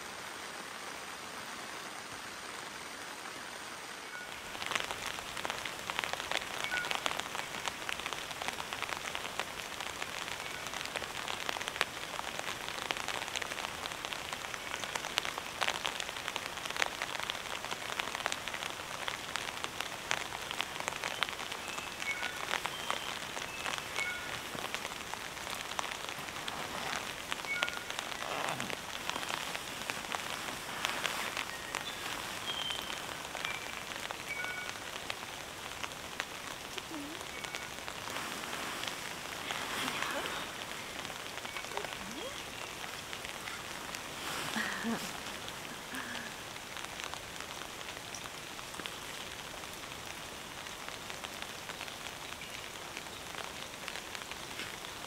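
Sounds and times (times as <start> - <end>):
heavy rain on a tarp: 0.0 - 55.0.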